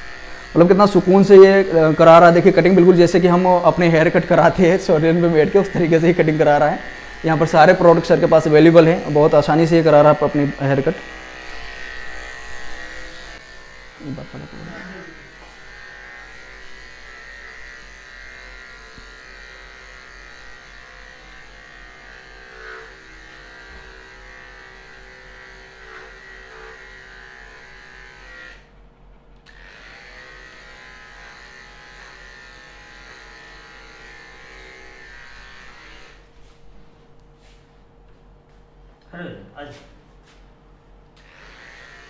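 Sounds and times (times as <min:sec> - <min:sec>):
electric pet clipper buzzing: 0:00.0 - 0:36.7, 0:41.1 - 0:42.0.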